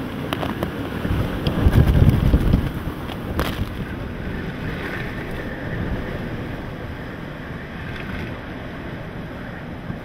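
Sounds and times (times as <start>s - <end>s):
strong wind through trees: 0.0s - 10.0s
wind buffeting the microphone: 0.0s - 10.0s.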